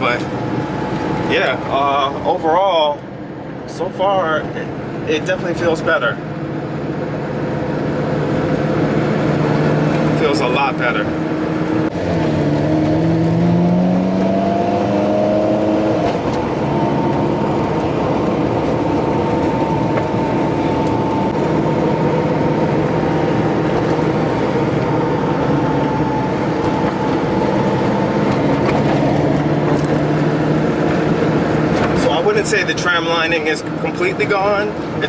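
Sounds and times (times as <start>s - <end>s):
car engine accelerating: 0.0s - 35.0s
road noise: 0.0s - 35.0s.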